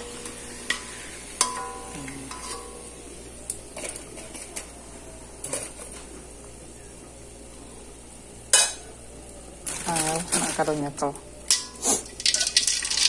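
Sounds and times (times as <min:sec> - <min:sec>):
crackers sizzling in hot oil: 0:00.0 - 0:06.5, 0:07.5 - 0:13.0.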